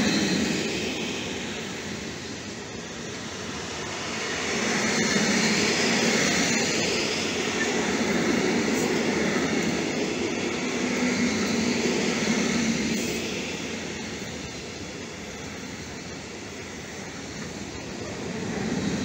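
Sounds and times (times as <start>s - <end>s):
freight wagons rumbling on rails: 0.0s - 19.0s.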